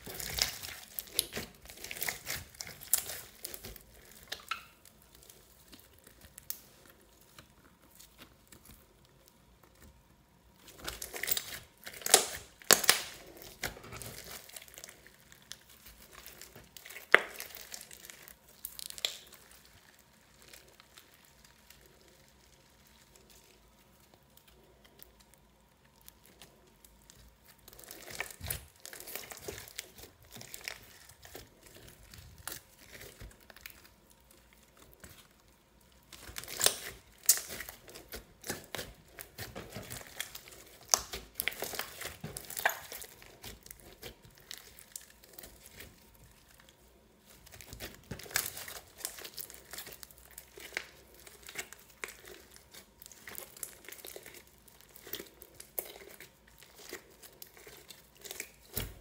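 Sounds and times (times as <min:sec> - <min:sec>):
slime crackling and popping: 0:00.0 - 0:59.0.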